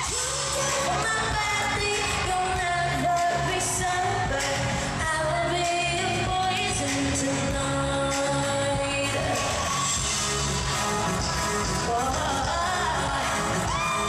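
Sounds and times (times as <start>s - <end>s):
woman singing: 0.0s - 10.0s, 11.6s - 14.0s
pop song beat: 0.0s - 14.0s.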